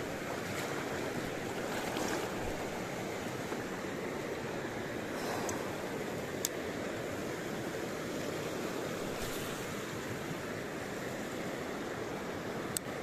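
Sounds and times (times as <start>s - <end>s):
river water flowing over rocks: 0.0s - 13.0s.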